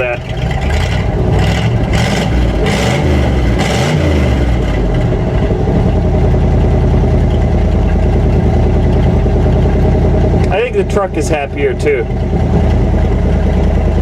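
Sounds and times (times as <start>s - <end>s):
truck engine revving and idling: 0.0s - 14.0s.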